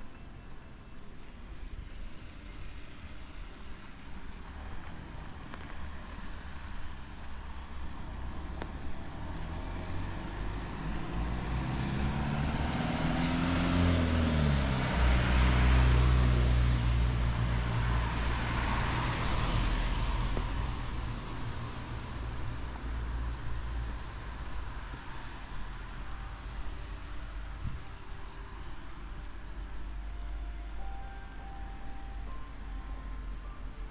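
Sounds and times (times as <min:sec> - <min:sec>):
truck engine passing: 0:04.4 - 0:33.9.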